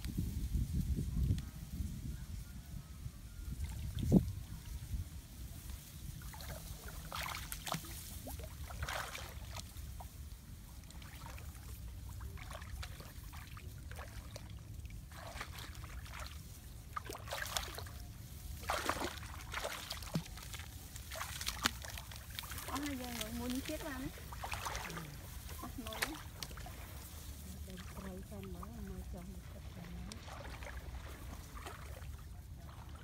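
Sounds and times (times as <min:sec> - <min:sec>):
splashing and rustling plants: 0:03.4 - 0:33.0
shallow water sloshing: 0:05.5 - 0:33.0.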